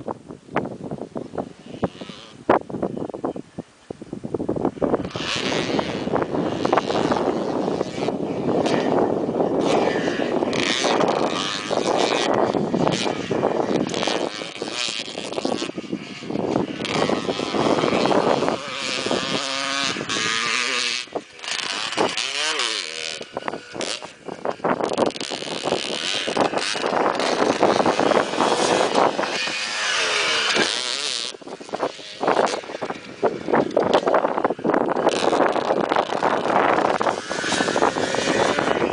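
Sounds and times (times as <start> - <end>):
motocross bike engines revving: 1.1 - 3.3, 4.5 - 38.9.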